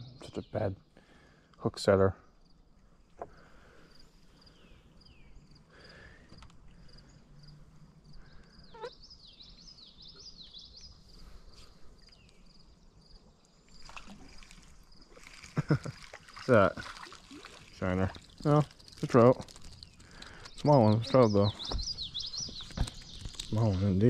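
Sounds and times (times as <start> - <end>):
birds chirping and warbling: 0.0 - 24.0.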